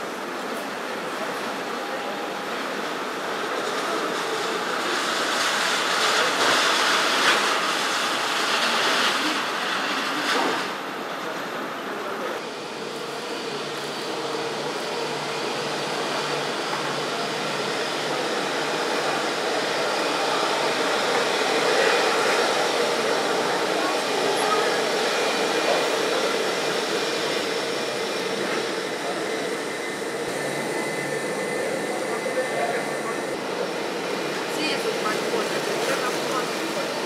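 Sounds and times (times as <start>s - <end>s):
jet engines whining: 0.0s - 37.0s.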